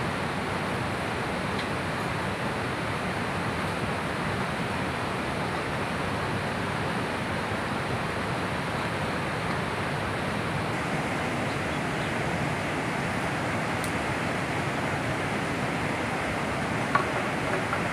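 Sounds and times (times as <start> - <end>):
river rushing: 0.0 - 17.9.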